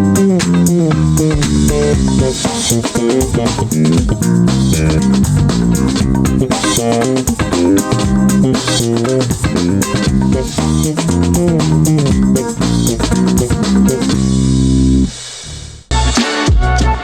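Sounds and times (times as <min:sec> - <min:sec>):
funky band music: 0:00.0 - 0:15.3, 0:15.9 - 0:17.0.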